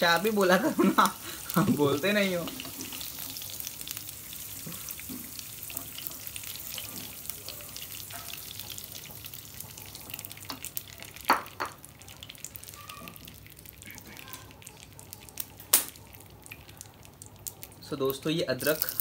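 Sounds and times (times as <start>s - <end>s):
prawns sizzling in oil: 0.0s - 19.0s.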